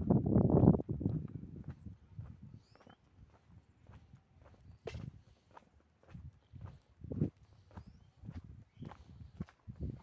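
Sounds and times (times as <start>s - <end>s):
footsteps on paved path: 0.0s - 10.0s.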